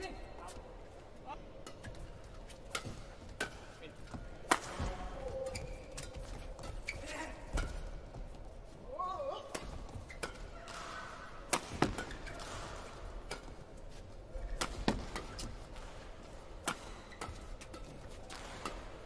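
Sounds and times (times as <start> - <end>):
rackets hitting shuttlecock: 1.6 - 8.0, 9.5 - 19.0.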